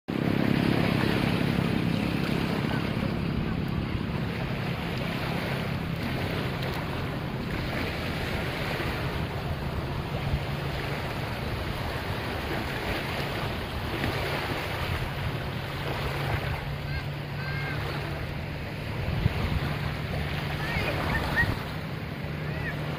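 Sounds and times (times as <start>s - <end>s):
waves washing onto pebbly shore: 0.1s - 22.9s
wind rumbling on microphone: 0.1s - 22.9s.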